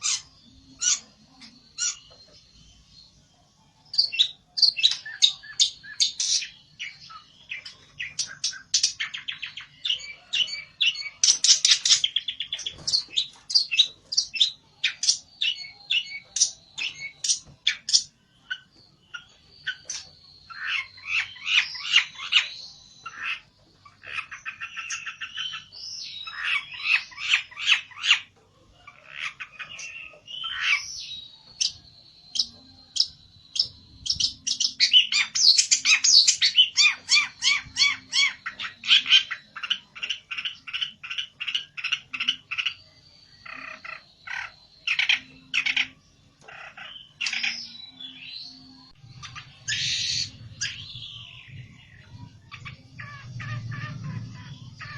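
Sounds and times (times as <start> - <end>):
songbird singing trills: 0.0 - 54.9.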